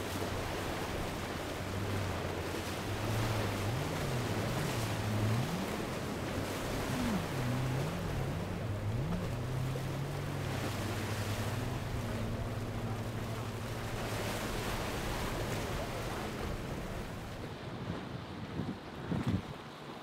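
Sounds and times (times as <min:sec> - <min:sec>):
wind buffeting microphone: 0:00.0 - 0:19.8
motorboat engine running: 0:00.0 - 0:20.0
waves washing: 0:00.0 - 0:20.0.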